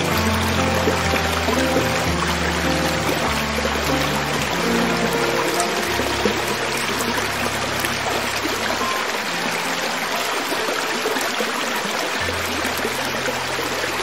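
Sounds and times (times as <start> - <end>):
creek water flowing over rocks: 0.0 - 14.0.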